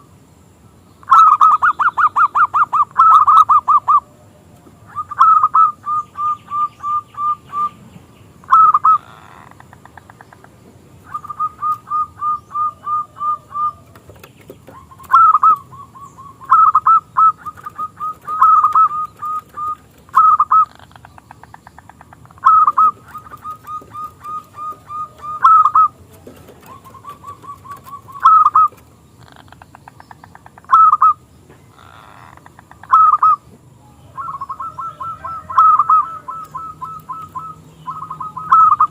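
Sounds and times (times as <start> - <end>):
dove cooing: 1.1 - 7.8, 8.4 - 21.2, 21.9 - 29.7, 30.6 - 38.9.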